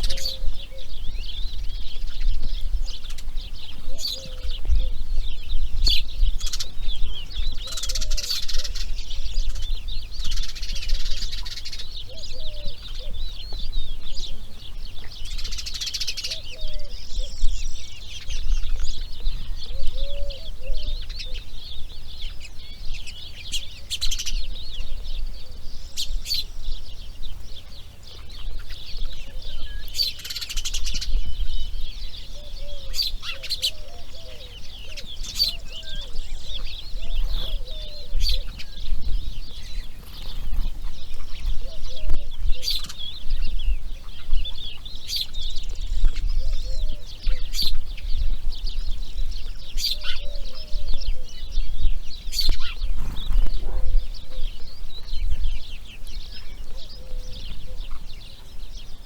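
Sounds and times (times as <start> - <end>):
wild birds chirping and calling: 0.0 - 59.0.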